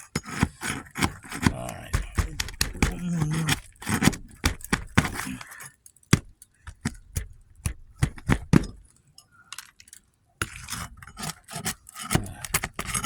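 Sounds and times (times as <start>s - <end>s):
metal tool prying nails: 0.1s - 8.8s, 10.4s - 13.0s.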